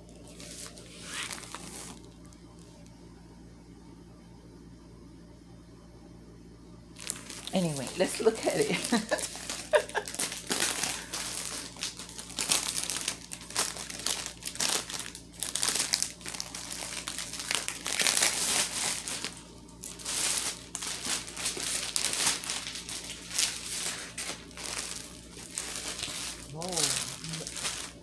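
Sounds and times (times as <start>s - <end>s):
plastic packaging crinkling: 0.1s - 2.2s, 7.0s - 28.0s.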